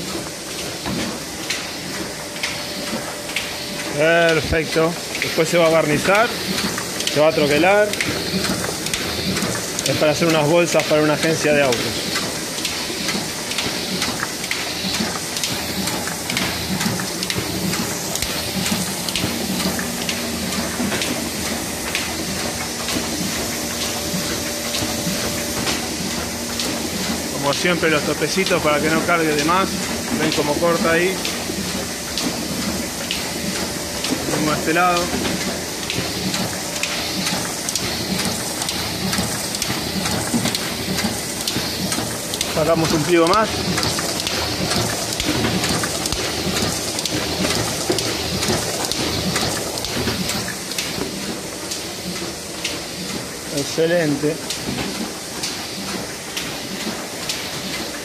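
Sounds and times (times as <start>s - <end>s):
printing press clattering: 0.0s - 58.0s.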